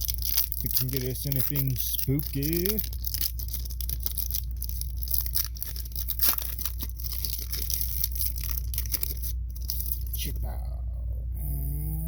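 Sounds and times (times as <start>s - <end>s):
foil card pack tearing: 0.0s - 10.3s
wrapper crinkling: 0.0s - 10.4s.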